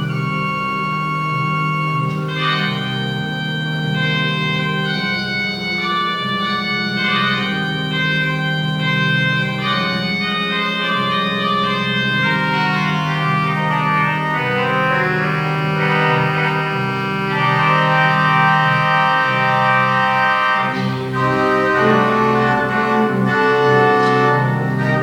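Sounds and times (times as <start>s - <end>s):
organ chords: 0.0s - 25.0s.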